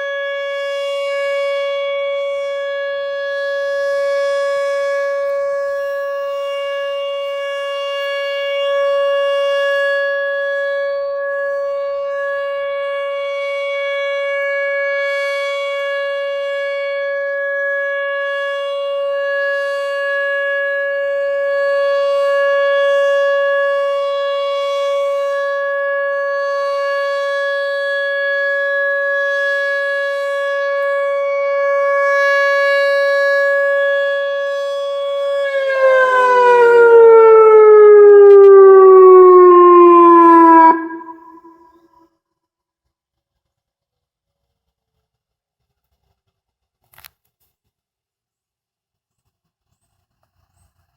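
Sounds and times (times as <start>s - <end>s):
electronic warning siren tone: 0.0s - 42.0s.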